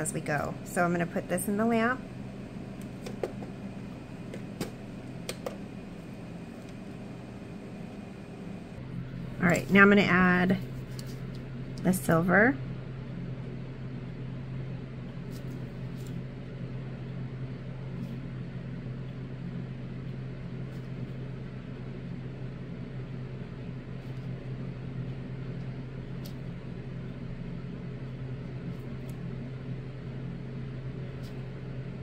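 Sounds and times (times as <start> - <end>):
fan motor humming: 0.0 - 32.0.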